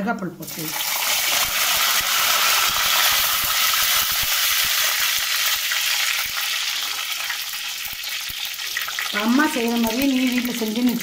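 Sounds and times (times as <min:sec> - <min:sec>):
oil sizzling in a pot: 0:00.4 - 0:11.0.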